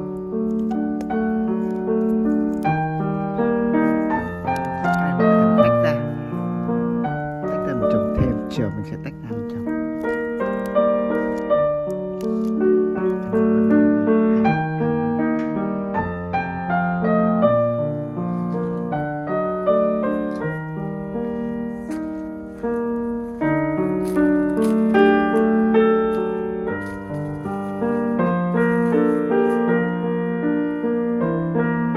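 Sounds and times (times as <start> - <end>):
calm piano melody: 0.0 - 31.9.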